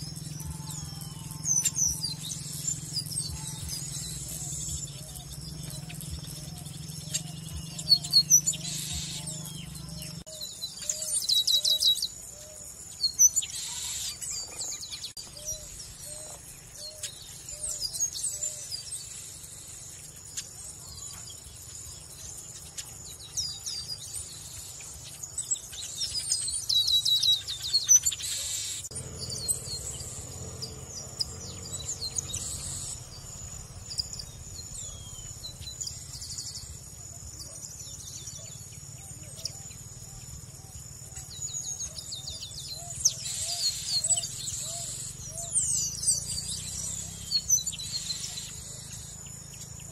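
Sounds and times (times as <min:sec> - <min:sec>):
blackbird singing: 0:00.0 - 0:49.9
insects buzzing: 0:00.0 - 0:49.9.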